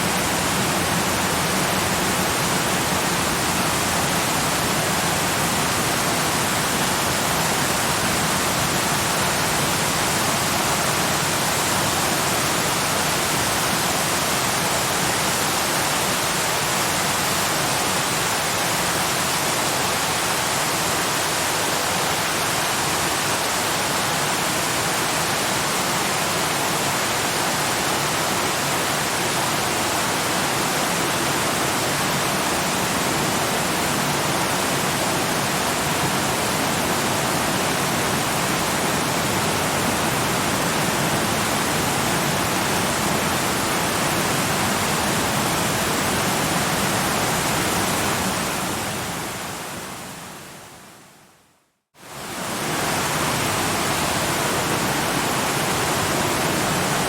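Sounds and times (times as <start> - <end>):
waterfall roaring: 0.0 - 50.7, 52.0 - 57.0.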